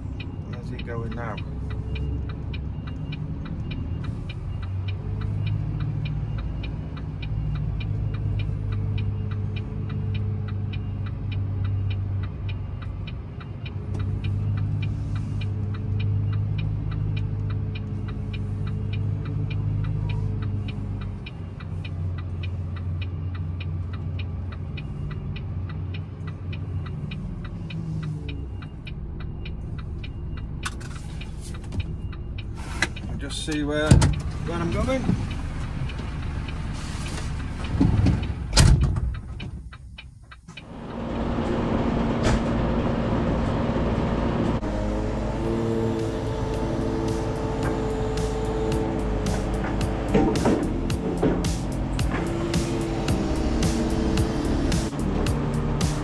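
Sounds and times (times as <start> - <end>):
diesel lorry engine at low revs: 0.0 - 56.0.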